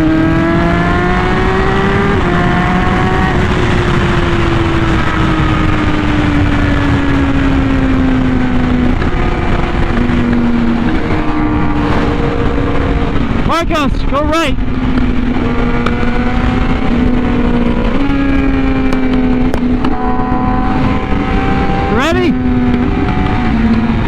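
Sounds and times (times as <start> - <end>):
motorcycle engine at speed: 0.0 - 24.0
wind noise rushing: 0.0 - 24.0.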